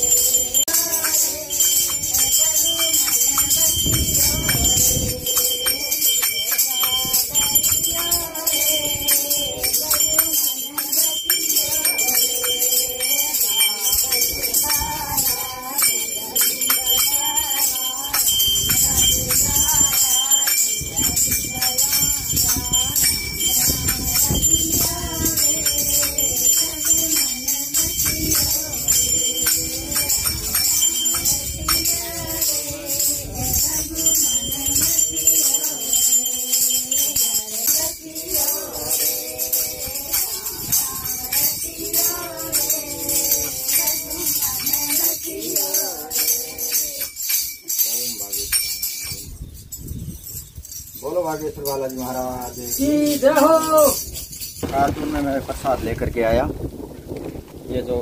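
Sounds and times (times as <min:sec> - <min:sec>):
group singing devotional song: 0:00.0 - 0:48.2.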